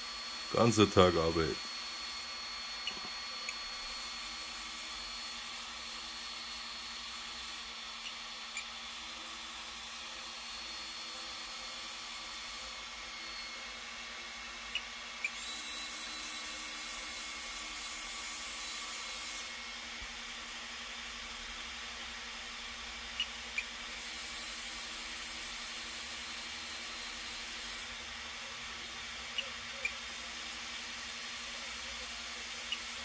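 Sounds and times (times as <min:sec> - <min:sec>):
small electric motors whirring: 0:00.0 - 0:33.0.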